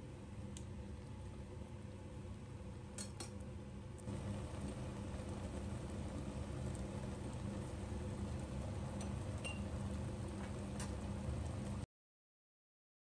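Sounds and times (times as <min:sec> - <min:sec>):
pot of water boiling: 0:00.0 - 0:11.9.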